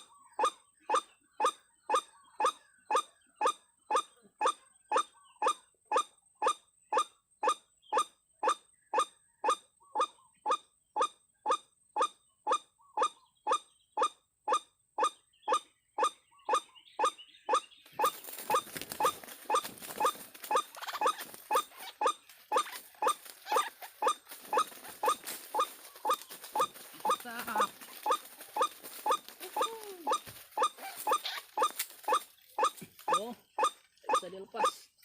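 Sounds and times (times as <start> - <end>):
bird call repeated: 0.0 - 34.8.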